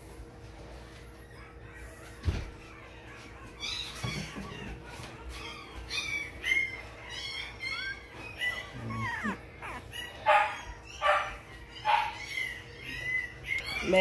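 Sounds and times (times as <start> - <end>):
puppies squeaking and whining: 0.0 - 14.0
puppy crying: 0.8 - 14.0.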